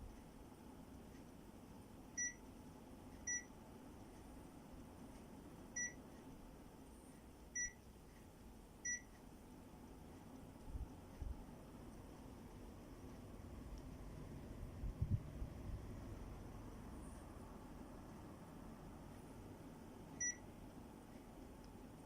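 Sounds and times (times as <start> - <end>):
air conditioner beeping: 0.0 - 22.0
faint steady hum: 0.0 - 22.0.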